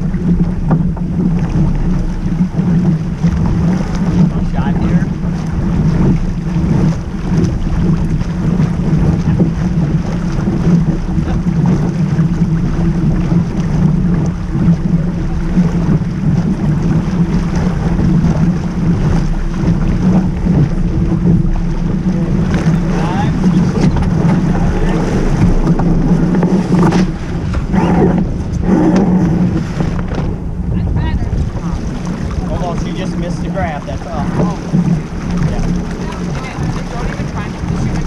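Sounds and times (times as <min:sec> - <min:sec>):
water rushing along hull: 0:00.0 - 0:38.0
wind on microphone: 0:00.0 - 0:38.0.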